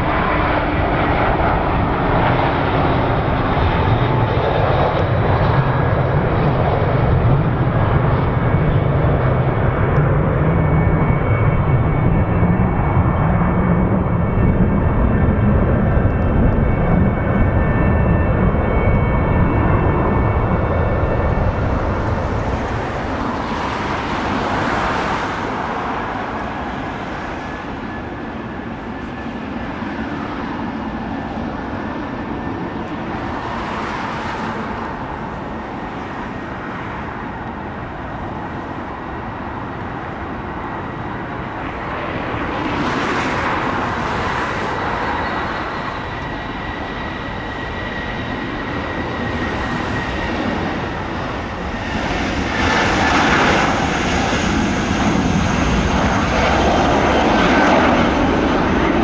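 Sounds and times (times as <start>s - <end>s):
jet engine rushing and whine: 0.0s - 59.0s.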